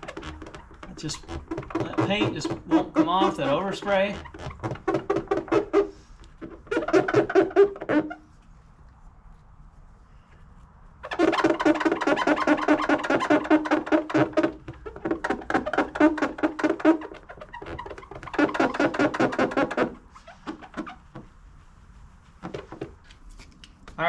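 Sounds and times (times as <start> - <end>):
foam pad squeaking on car paint: 0.0 - 8.4, 11.0 - 23.0.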